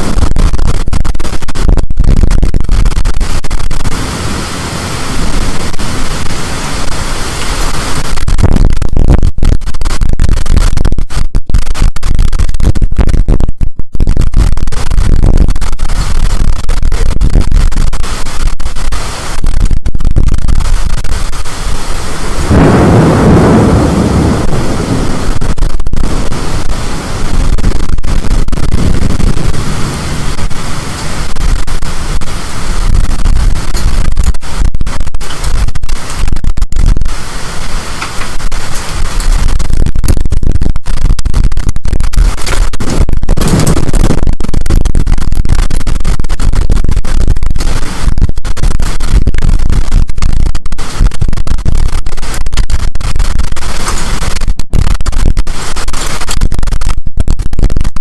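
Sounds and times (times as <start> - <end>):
storm wind buffeting microphone: 0.0 - 58.0.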